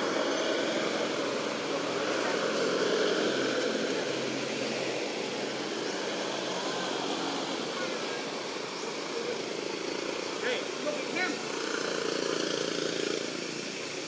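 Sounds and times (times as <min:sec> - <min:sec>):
distant engine hum: 0:00.0 - 0:14.0.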